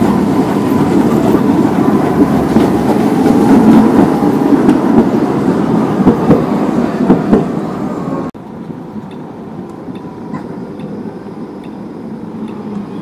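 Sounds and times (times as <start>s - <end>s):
distant tram approaching: 0.0s - 13.0s
street background: 0.0s - 13.0s
tram passing rumble: 0.0s - 13.0s.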